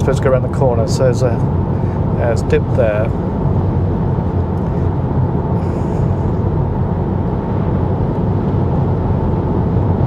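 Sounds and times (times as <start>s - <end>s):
road and tyre noise in car: 0.0s - 10.0s.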